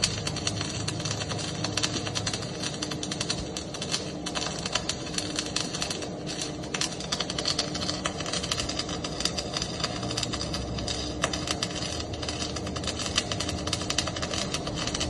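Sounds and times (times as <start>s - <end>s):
welding arc crackling: 0.0s - 15.0s.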